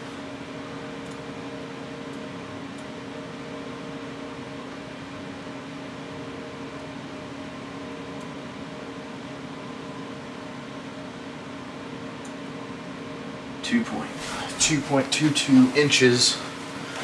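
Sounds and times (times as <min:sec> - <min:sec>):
electric box fan humming: 0:00.0 - 0:17.0.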